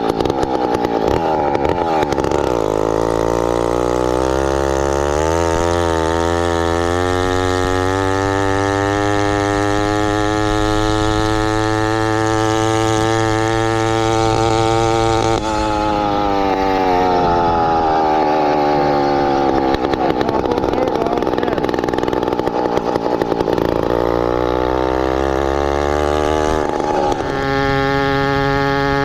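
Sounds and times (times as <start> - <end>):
motorized bicycle engine running: 0.0 - 29.0.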